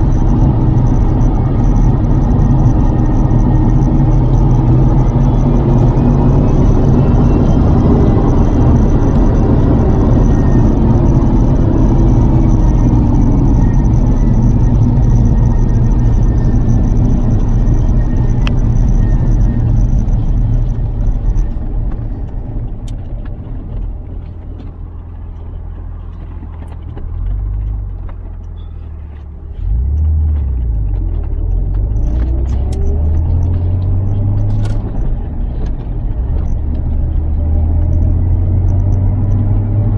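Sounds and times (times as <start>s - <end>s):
car engine rumbling: 0.0s - 39.9s
road noise: 0.0s - 39.9s.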